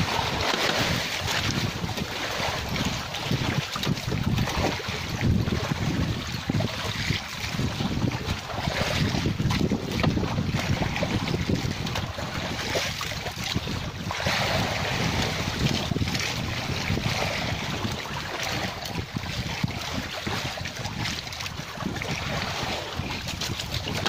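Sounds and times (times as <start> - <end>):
sea waves against a boat: 0.0 - 24.0
wind buffeting microphone: 0.0 - 24.0.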